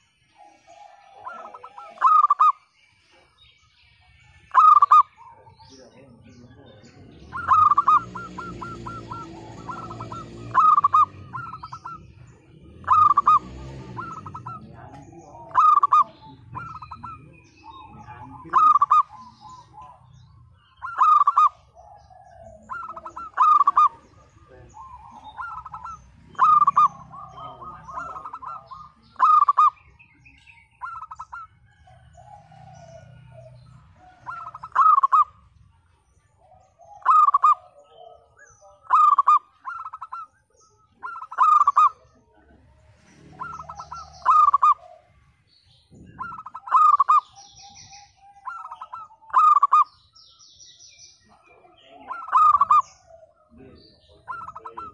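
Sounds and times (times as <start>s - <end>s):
dove cooing in staccato bursts: 0.0s - 2.8s, 4.0s - 50.2s, 51.2s - 54.9s.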